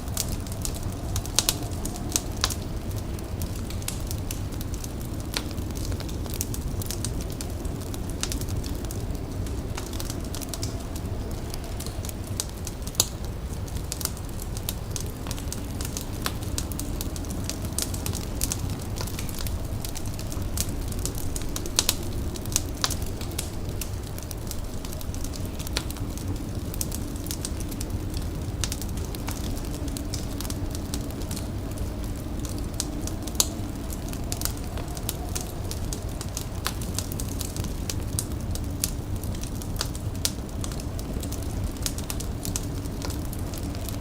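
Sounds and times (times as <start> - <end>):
fire crackling and popping: 0.0 - 44.0
low rumble: 0.0 - 44.0.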